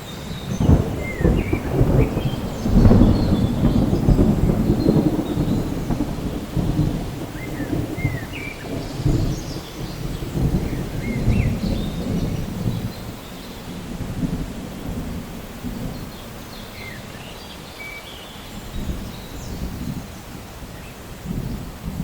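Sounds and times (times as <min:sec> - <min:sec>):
steady rain: 0:00.0 - 0:22.0
thunder rolling and rumbling: 0:00.3 - 0:17.2, 0:21.2 - 0:22.0.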